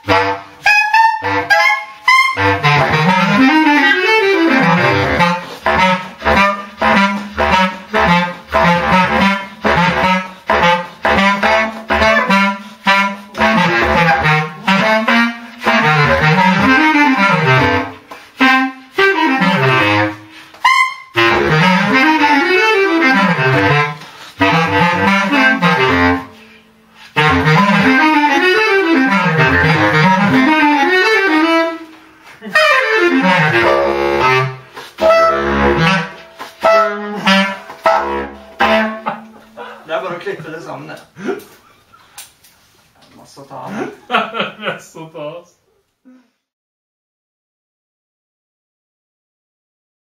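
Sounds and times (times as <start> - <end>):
bass clarinets playing fast runs: 0.0 - 40.4.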